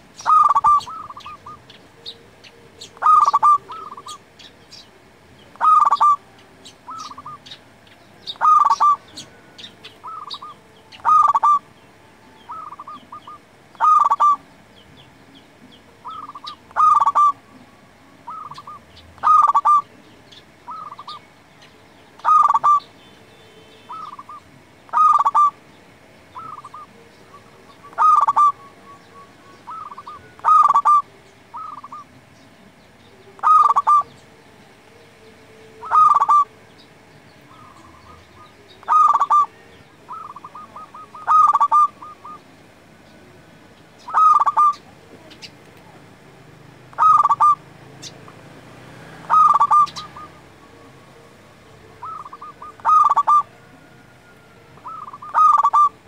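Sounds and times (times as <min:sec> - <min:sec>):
dove cooing: 0:00.0 - 0:14.5, 0:15.6 - 0:21.2, 0:22.2 - 0:22.9, 0:23.8 - 0:25.6, 0:26.3 - 0:32.4, 0:33.1 - 0:36.6, 0:37.4 - 0:46.0, 0:46.8 - 0:56.0.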